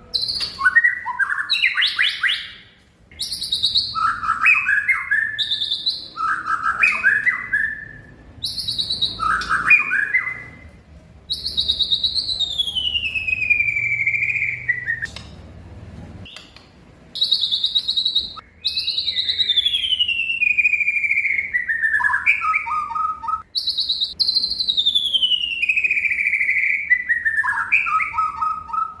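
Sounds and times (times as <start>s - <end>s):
songbird whistling and trilling: 0.1s - 10.7s, 11.3s - 15.1s, 16.3s - 29.0s.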